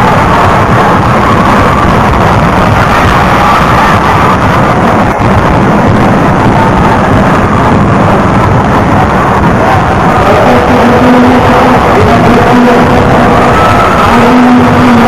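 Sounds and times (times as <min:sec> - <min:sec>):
distorted rumbling din: 0:00.0 - 0:15.0.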